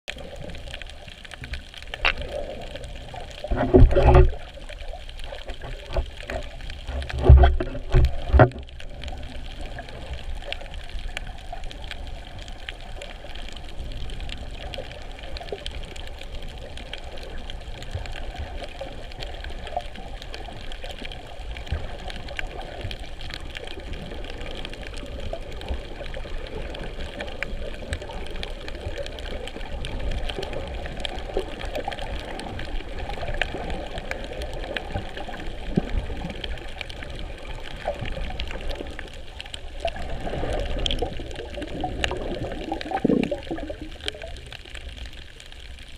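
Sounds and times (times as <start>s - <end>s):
fine crackling clicks: 0.1s - 45.9s
underwater low wash: 0.1s - 45.9s.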